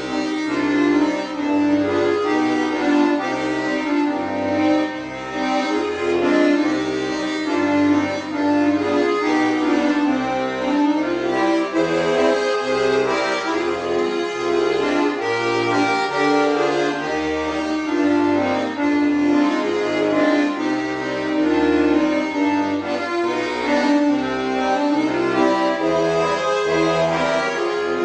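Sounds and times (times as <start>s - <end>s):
button accordion folk melody: 0.0s - 28.0s.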